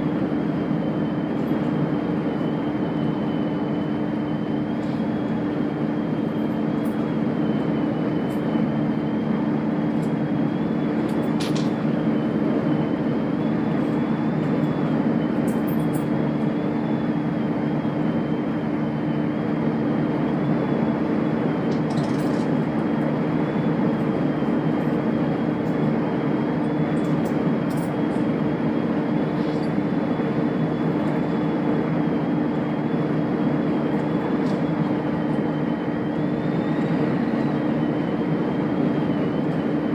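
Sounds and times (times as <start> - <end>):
diesel train rumbling: 0.0 - 39.9.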